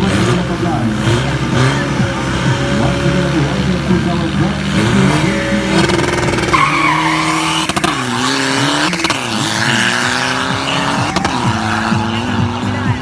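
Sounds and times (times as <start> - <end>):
truck engine accelerating: 0.0 - 13.0.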